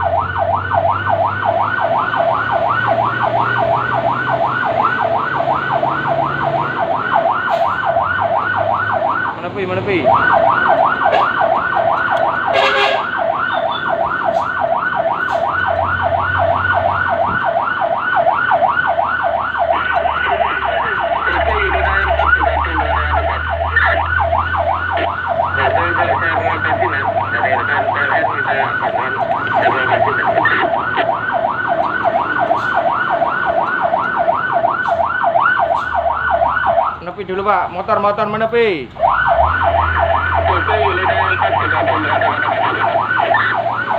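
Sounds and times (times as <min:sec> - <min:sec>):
fire truck siren yelping: 0:00.0 - 0:43.9
truck engine running: 0:00.0 - 0:43.9.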